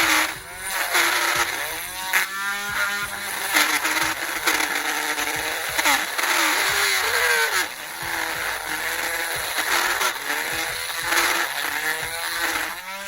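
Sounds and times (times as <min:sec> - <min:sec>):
rotary tool drilling plastic: 0:00.0 - 0:13.0.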